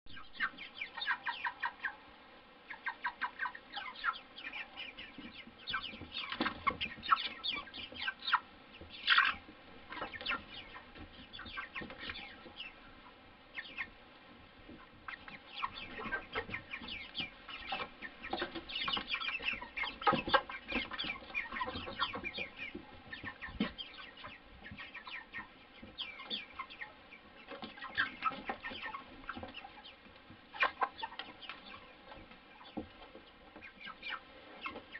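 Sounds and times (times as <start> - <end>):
chickens clucking and cheeping: 0.1 - 34.9.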